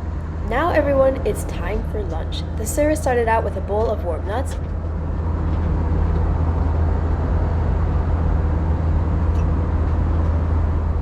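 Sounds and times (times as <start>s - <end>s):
airliner cabin drone: 0.0s - 11.0s
deep hum: 0.0s - 11.0s.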